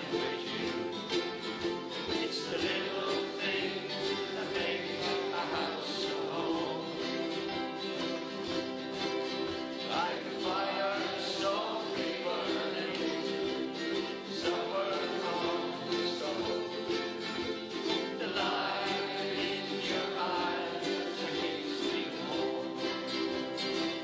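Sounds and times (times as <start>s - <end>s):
ukulele strumming chords: 0.0s - 24.0s.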